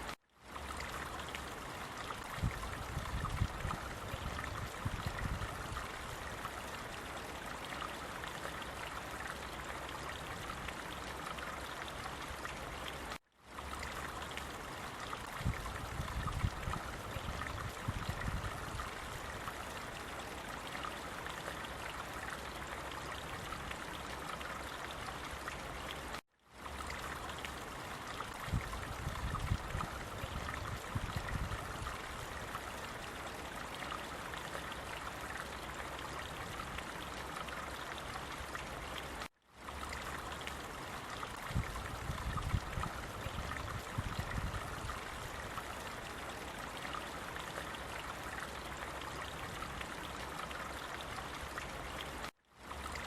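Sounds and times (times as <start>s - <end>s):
running water rushing: 0.0s - 53.0s.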